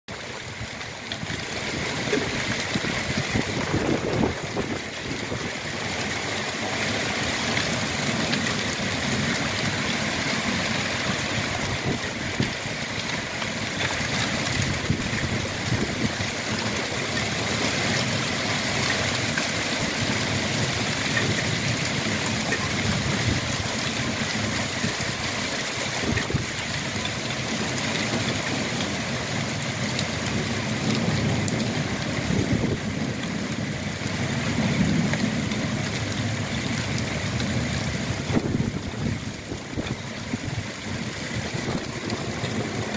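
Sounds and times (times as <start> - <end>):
heavy rain downpour: 0.1 - 42.9
water pouring off roof: 0.1 - 42.9
wind rumbling on microphone: 0.4 - 42.9.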